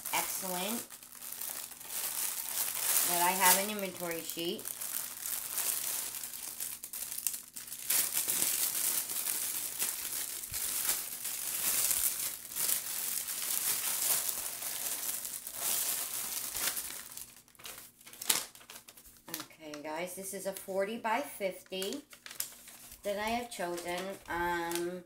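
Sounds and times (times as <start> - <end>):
plastic bag crinkling: 0.0 - 19.6, 21.7 - 25.0.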